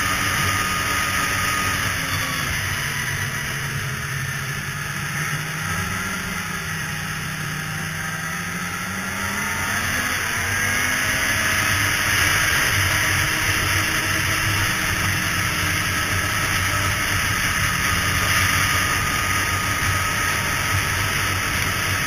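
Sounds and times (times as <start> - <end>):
snowmobile engine running: 0.0 - 22.0
wind and track hiss: 0.0 - 22.0.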